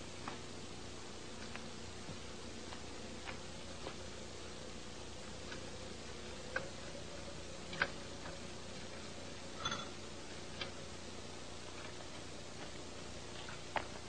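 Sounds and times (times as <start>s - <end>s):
faint hum and hiss: 0.0s - 14.0s.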